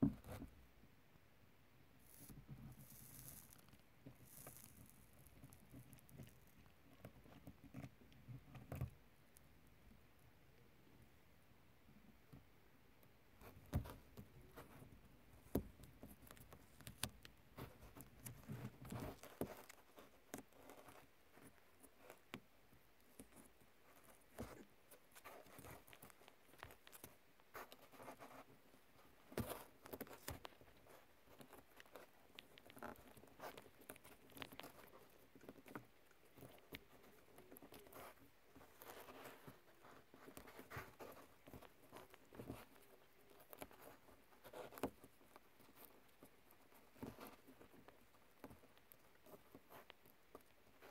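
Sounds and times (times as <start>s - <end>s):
fingers rustling thin wires: 2.0s - 9.5s, 13.4s - 50.9s.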